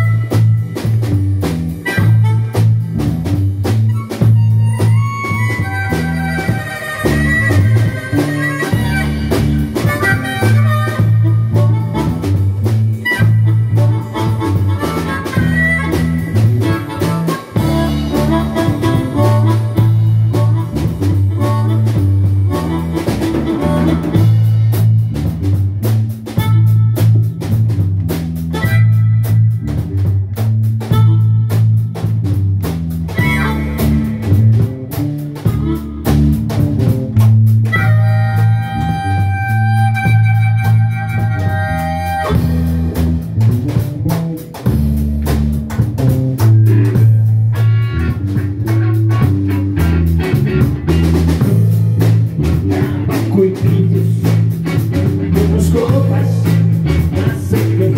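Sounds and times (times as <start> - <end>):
blues harmonica wailing: 0.0 - 57.9
drums: 0.0 - 57.9
electric guitar: 0.0 - 57.9
low bass line: 0.0 - 57.9.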